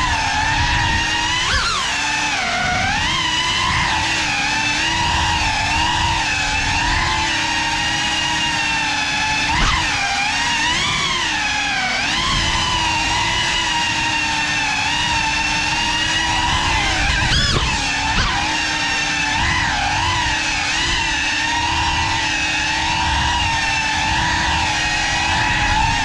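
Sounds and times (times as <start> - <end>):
drone motors and propellers whining: 0.0 - 26.0.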